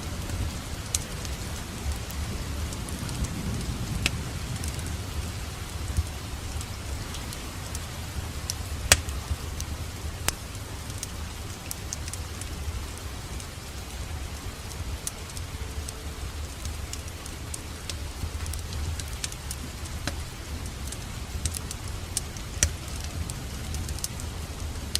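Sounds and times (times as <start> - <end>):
low rumble of flame: 0.0 - 24.9
wood fire crackling: 0.0 - 24.9.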